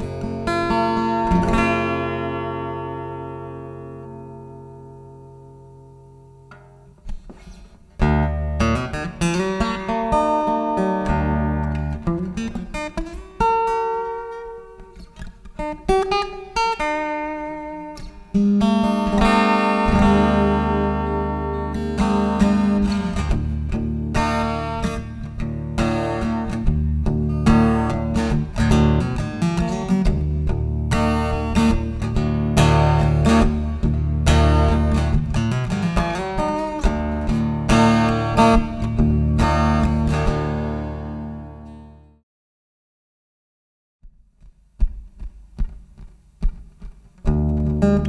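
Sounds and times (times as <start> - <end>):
fingerstyle acoustic guitar with reverb: 0.0 - 42.2, 44.4 - 48.0.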